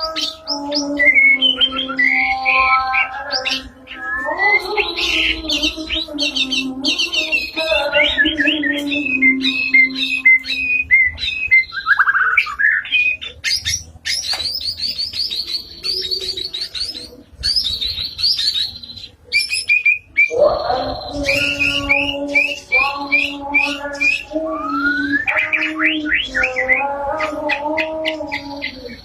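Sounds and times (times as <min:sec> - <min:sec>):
songbird singing whistled notes: 0:00.0 - 0:29.0.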